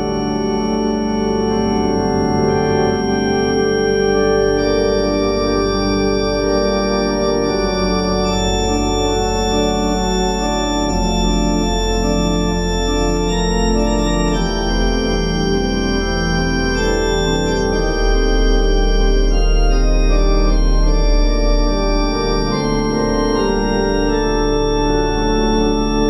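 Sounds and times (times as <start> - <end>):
deep organ pedal bass note: 0.0 - 26.0
organ chords: 0.0 - 26.0.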